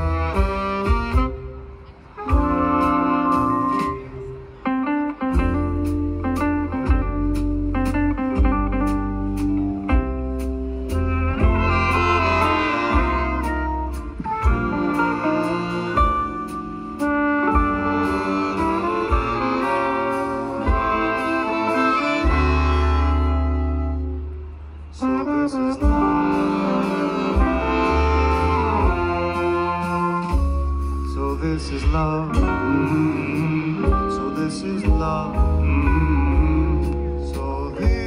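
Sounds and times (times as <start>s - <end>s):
live band playing instrumental: 0.0s - 38.0s.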